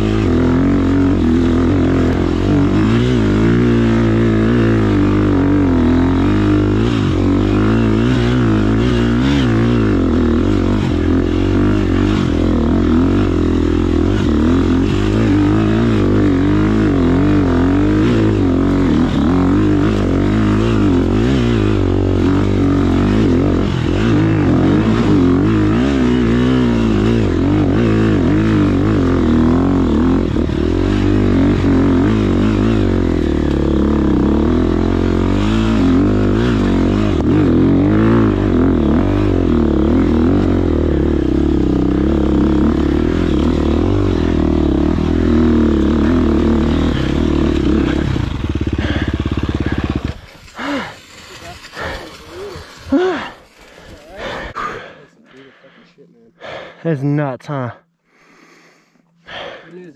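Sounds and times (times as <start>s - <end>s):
dirt bike engine revving: 0.0s - 58.0s, 59.1s - 59.9s.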